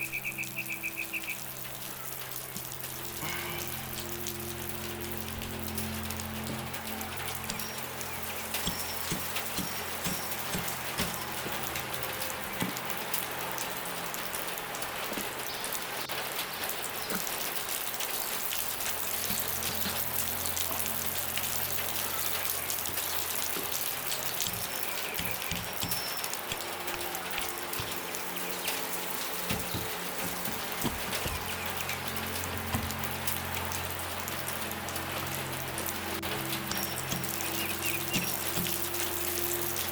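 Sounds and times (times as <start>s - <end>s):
rain drops falling: 0.0s - 39.9s.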